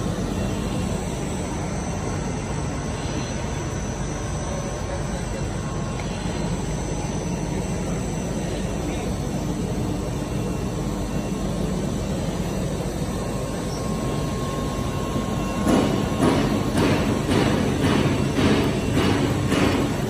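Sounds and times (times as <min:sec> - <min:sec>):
faint steady whine: 0:00.0 - 0:20.0
machinery hum and rumble: 0:00.0 - 0:20.0.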